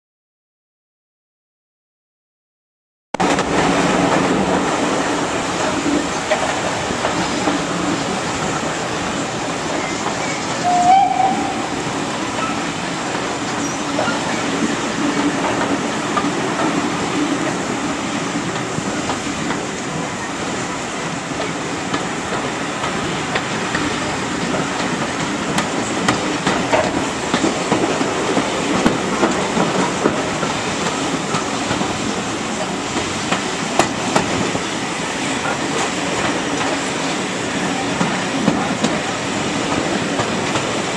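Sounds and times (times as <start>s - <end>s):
train rumble and clickety-clack: 3.2s - 40.9s.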